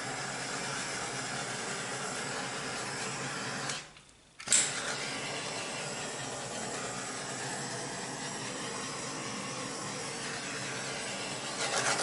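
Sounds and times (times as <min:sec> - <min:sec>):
torch flame hissing: 0:00.0 - 0:03.9, 0:04.6 - 0:12.0.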